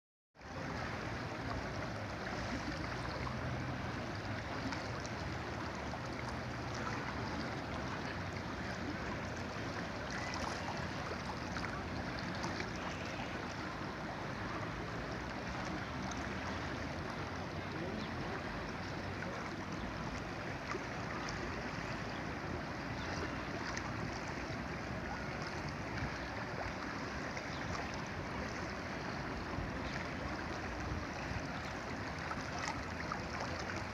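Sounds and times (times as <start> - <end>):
river water flowing: 0.4 - 33.9.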